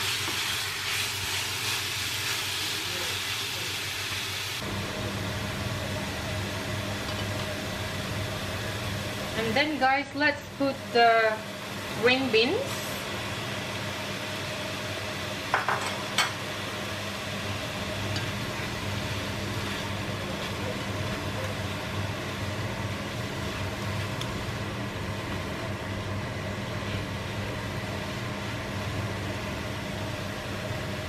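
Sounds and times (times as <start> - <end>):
vegetables sizzling in a frying pan: 0.0 - 31.0.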